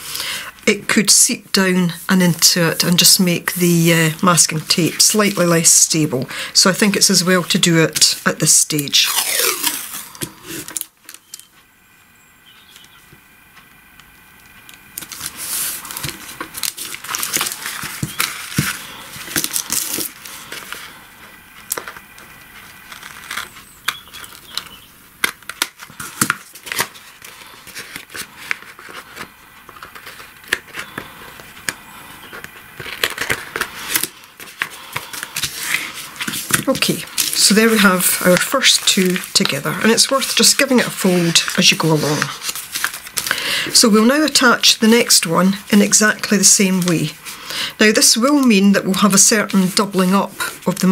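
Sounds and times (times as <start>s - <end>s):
paper envelopes rustling: 0.0s - 11.6s, 14.5s - 50.9s.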